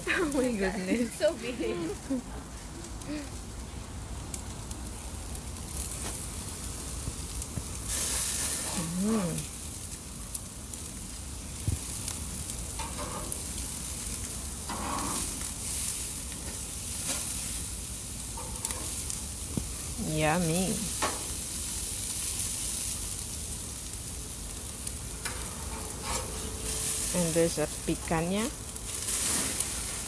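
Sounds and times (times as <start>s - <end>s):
steak sizzling on a grill: 0.0s - 2.2s, 3.0s - 30.0s.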